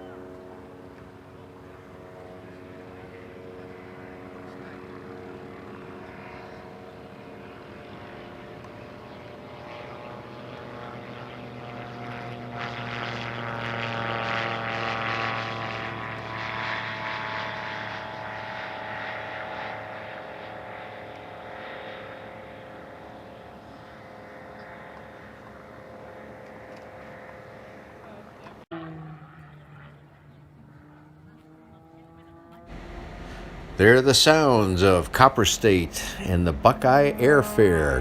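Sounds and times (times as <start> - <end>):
propeller airplane flying past: 0.0 - 38.0.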